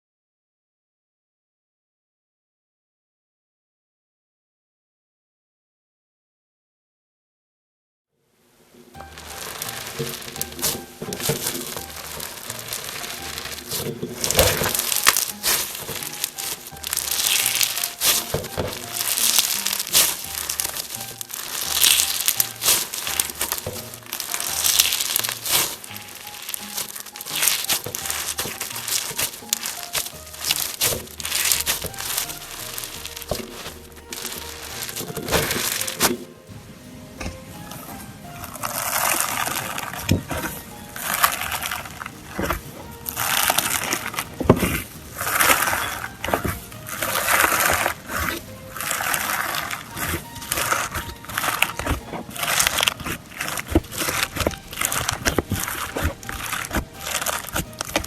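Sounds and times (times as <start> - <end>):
background music with steady beat: 8.9 - 58.0
slime squishing and crackling: 9.0 - 36.3, 38.6 - 58.0.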